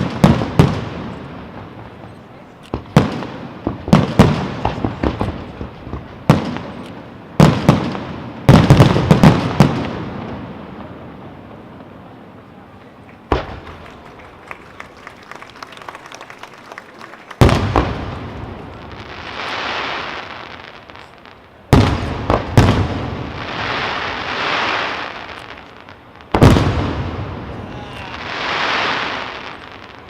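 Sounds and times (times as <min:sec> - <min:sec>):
long hiss of burning stars: 0:00.0 - 0:30.0.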